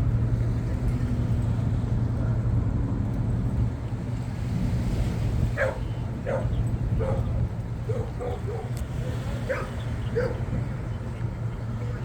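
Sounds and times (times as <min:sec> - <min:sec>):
ferry engine humming: 0:00.0 - 0:12.0.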